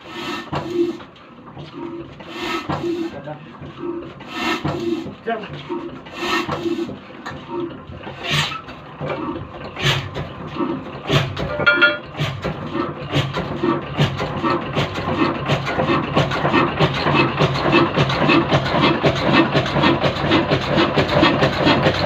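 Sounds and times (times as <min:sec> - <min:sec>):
diesel engine thumping: 0:00.5 - 0:22.0.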